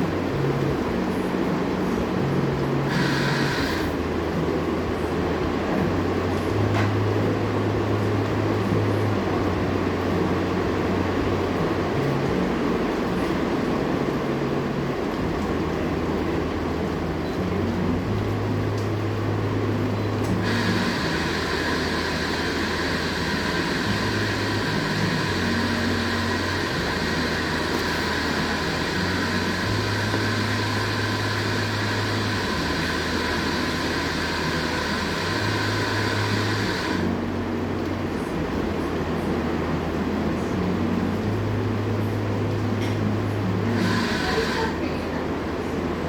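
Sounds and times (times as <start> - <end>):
steady rain hiss: 0.0 - 5.4, 9.7 - 46.0
steady high whine: 0.0 - 46.0.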